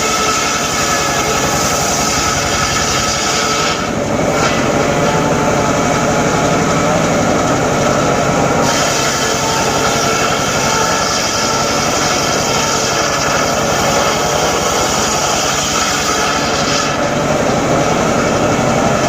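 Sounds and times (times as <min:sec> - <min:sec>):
circular saw cutting timber: 0:00.0 - 0:19.0.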